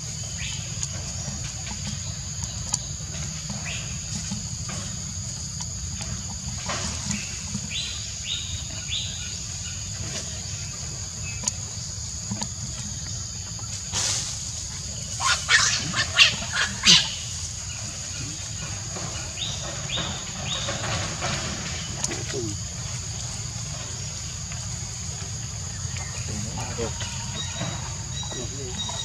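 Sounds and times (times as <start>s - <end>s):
birds chirping: 0.0s - 29.0s
high insect drone: 0.0s - 29.0s.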